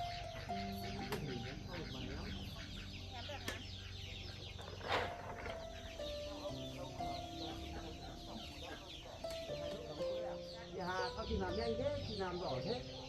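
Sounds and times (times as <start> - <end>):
chickens clucking: 0.0 - 13.0
chicks peeping: 0.0 - 13.0.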